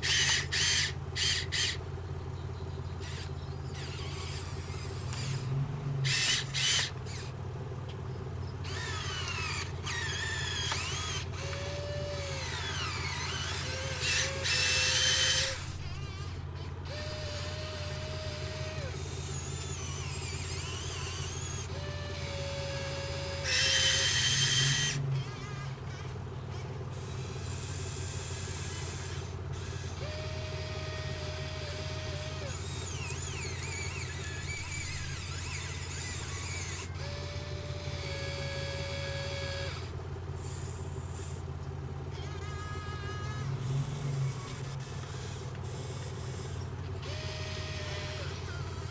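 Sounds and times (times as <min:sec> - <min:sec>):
electric motors humming: 0:00.0 - 0:48.9
harsh motor bursts: 0:00.0 - 0:48.9
high motor whine: 0:00.0 - 0:48.9.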